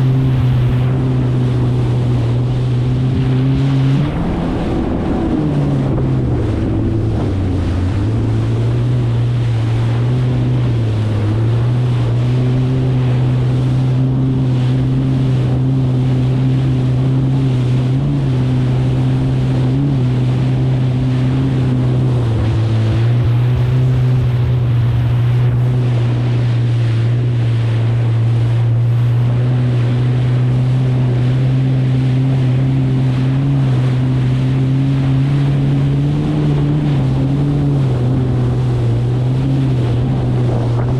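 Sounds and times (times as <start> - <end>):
jet ski engine running: 0.0 - 40.9
water rushing: 0.0 - 40.9
wind on microphone: 0.0 - 40.9.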